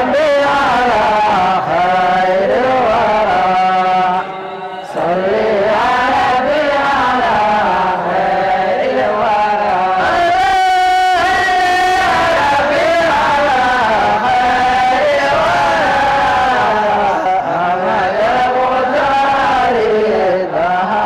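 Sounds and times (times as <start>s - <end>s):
men chanting a hymn: 0.0s - 21.0s.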